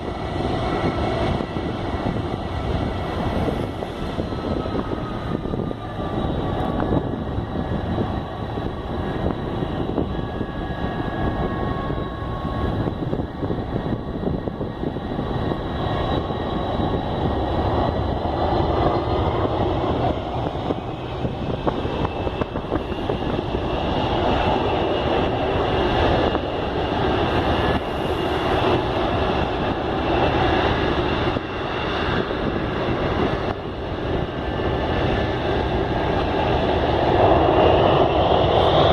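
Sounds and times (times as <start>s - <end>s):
high fan whines: 0.0s - 38.9s
jet engine rushing: 0.0s - 38.9s.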